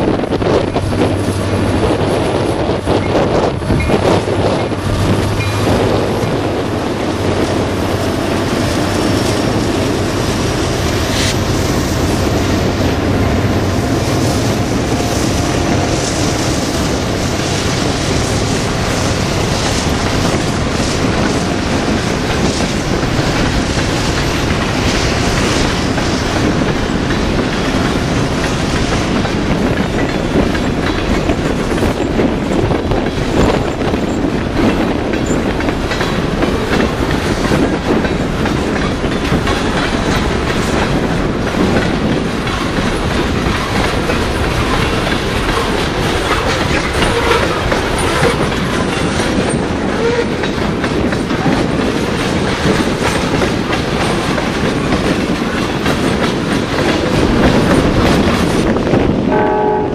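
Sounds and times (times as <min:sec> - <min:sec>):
wheels clickety-clack over rail joints: 0:00.0 - 0:59.6
train wheels rumbling on rail: 0:00.0 - 0:59.9.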